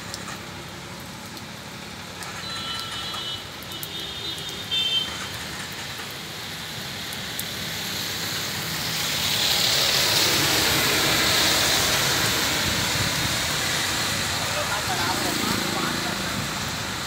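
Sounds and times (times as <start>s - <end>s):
passing traffic: 0.0s - 17.0s
rain on wet street: 0.0s - 17.0s.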